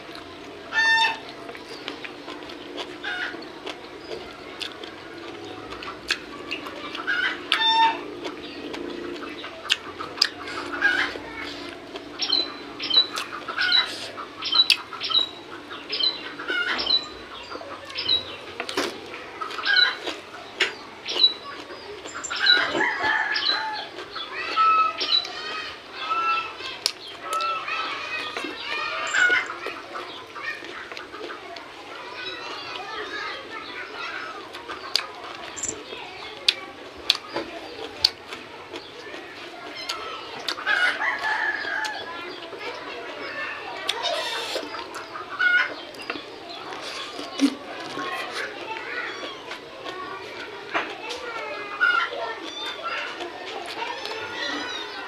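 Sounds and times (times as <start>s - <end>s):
chickens clucking: 0.0s - 55.0s
chewing and mouth sounds: 1.2s - 25.5s, 26.6s - 55.0s.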